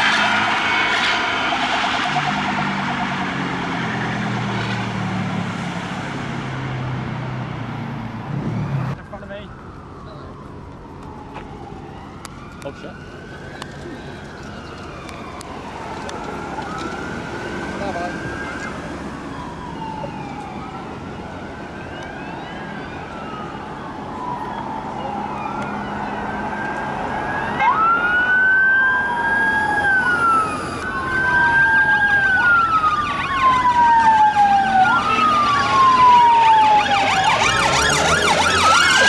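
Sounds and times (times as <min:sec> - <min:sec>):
police sirens wailing: 0:00.0 - 0:39.0.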